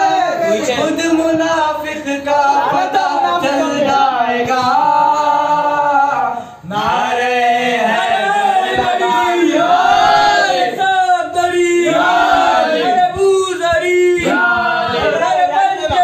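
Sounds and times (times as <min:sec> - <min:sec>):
men singing chorus: 0:00.0 - 0:16.0.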